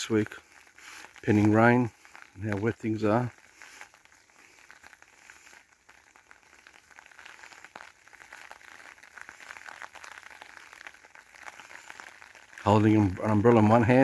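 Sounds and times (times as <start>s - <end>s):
rain on an umbrella: 0.0s - 14.0s.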